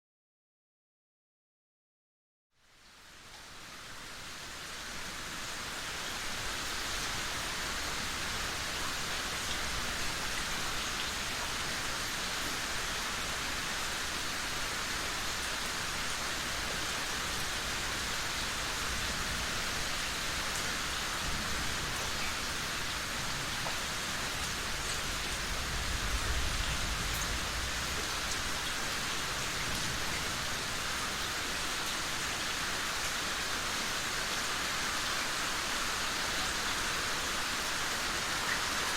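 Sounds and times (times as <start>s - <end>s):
steady rainfall: 2.6s - 38.9s.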